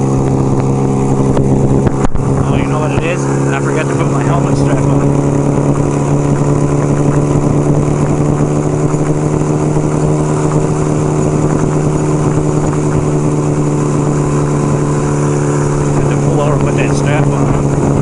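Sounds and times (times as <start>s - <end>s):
motorcycle engine running steadily: 0.0s - 18.0s.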